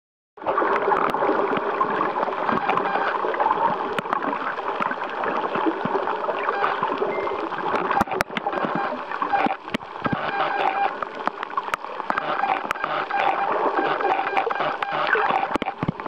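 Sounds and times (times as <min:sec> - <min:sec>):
underwater water noise: 0:00.4 - 0:16.0.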